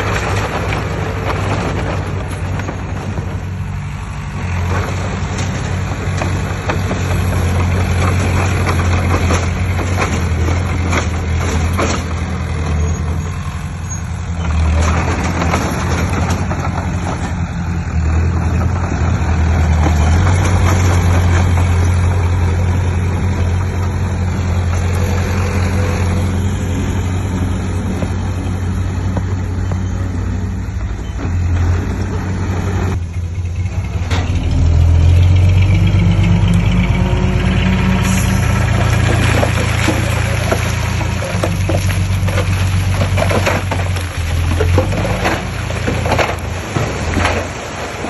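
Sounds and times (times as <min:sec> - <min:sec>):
heavy diesel engine running: 0:00.0 - 0:48.0
machinery rattling: 0:00.0 - 0:48.0.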